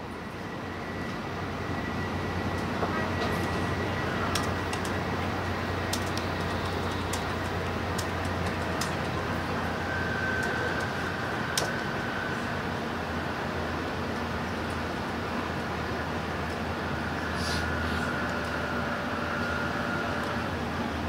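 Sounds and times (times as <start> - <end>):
train cabin rumble and air rush: 0.0 - 21.0.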